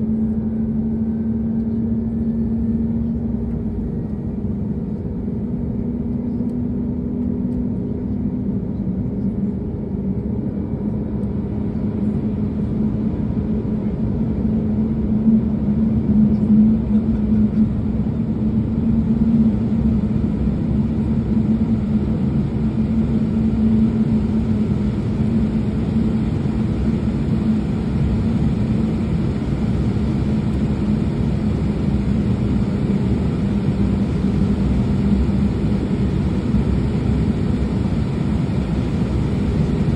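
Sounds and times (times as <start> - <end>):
jet engine idling: 0.0 - 39.9.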